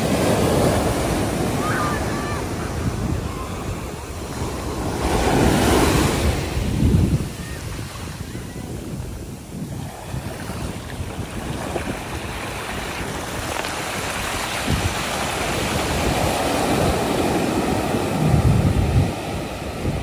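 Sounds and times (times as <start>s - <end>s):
small waves washing up beach: 0.0s - 20.0s.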